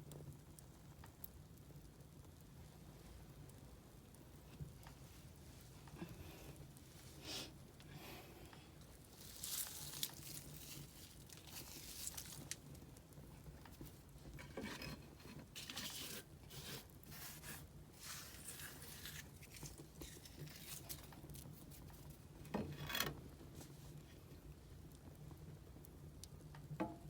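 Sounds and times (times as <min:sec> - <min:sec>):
firewood crackling and popping: 0:00.0 - 0:26.8.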